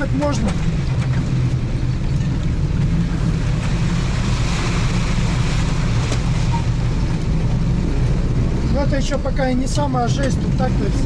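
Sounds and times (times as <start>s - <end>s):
tyre and road noise: 0.0s - 11.0s
vehicle engine running: 0.0s - 11.0s.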